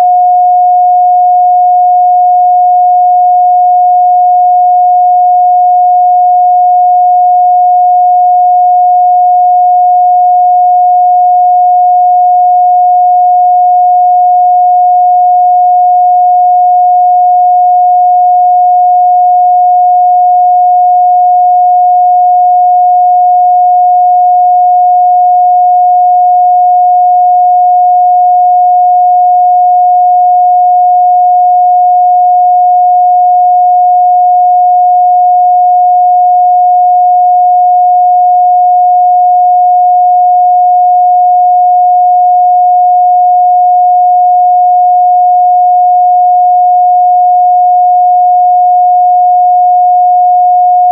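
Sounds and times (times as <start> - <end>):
sine-wave test tone: 0.0 - 50.9.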